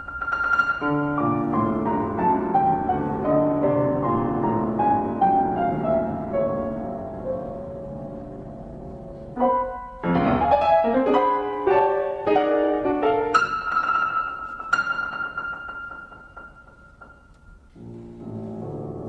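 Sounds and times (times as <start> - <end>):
solo piano notes: 0.0 - 19.0.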